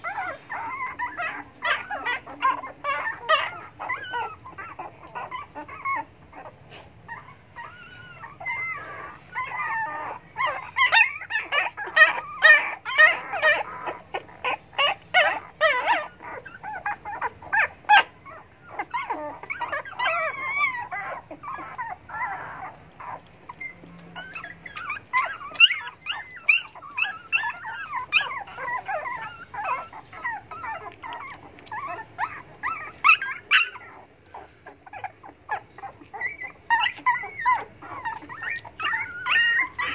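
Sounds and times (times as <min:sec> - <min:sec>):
puppies whimpering and squealing: 0:00.0 - 0:39.9.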